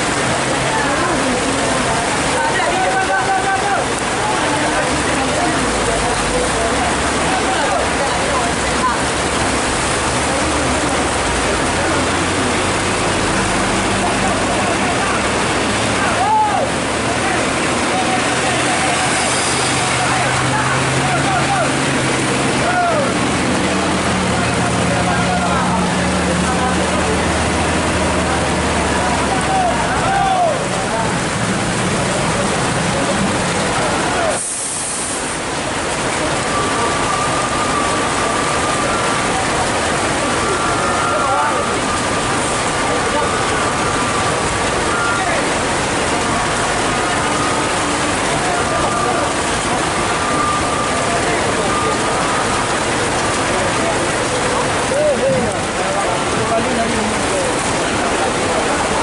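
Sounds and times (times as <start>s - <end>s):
floodwater rushing: 0.0s - 59.0s
heavy rain pouring: 0.0s - 59.0s
vehicle engines running: 0.0s - 59.0s.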